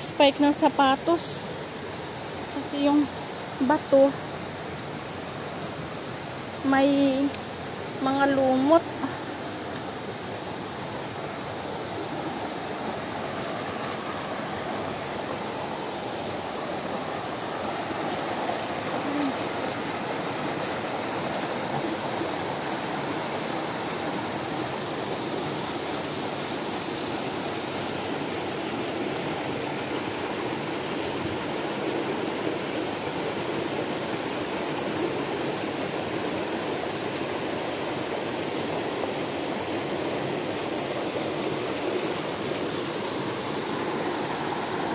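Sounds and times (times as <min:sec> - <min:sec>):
stream rushing over boulders: 0:00.0 - 0:44.9.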